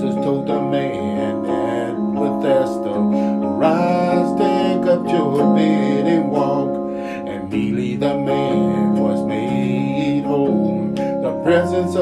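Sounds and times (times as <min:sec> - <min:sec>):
gospel instrumental accompaniment: 0:00.0 - 0:12.0.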